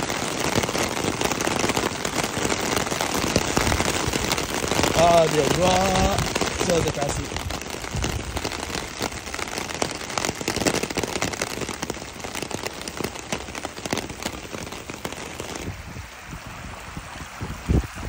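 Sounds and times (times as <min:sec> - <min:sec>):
heavy rain on car: 0:00.0 - 0:18.0
rainwater running down track: 0:00.0 - 0:18.0.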